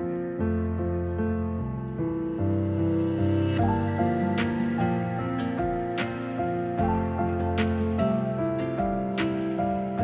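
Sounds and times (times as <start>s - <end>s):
instrumental music with sustained chords: 0.0s - 10.0s.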